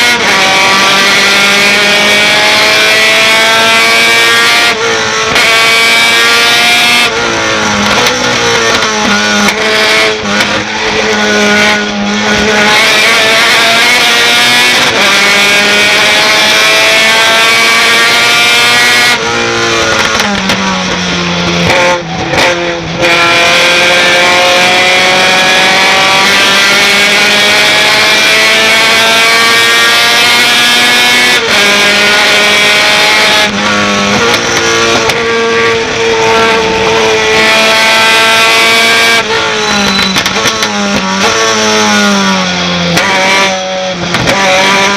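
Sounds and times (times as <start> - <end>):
truck engine accelerating through gears: 0.0 - 44.9.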